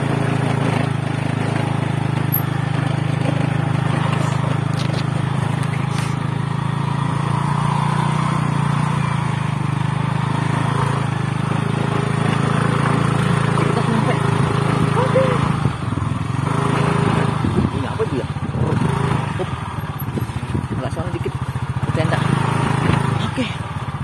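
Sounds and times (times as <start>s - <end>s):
motorcycle engine droning: 0.0s - 24.0s.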